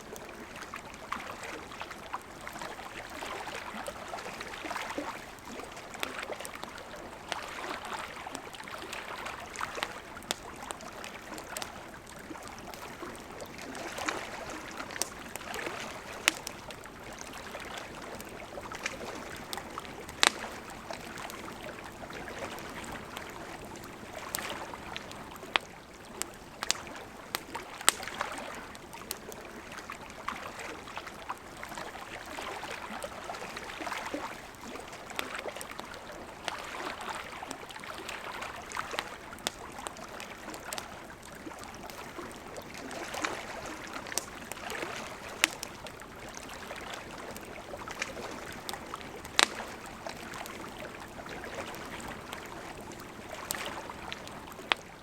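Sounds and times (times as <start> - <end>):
campfire crackling: 0.0 - 55.0
lake water lapping on shore: 0.0 - 55.0.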